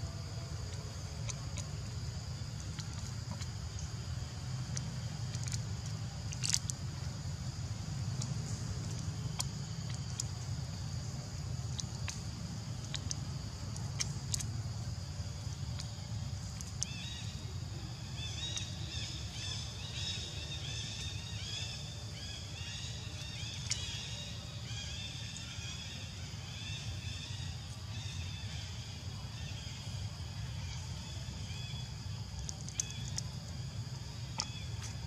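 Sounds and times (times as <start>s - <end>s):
constant high buzz: 0.0s - 35.0s
steady low rumble: 0.0s - 35.0s.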